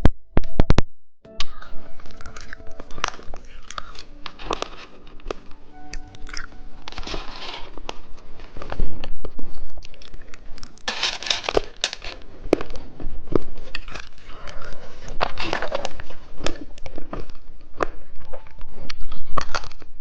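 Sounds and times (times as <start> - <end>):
plastic candy wrapper crinkling: 1.5 - 19.9.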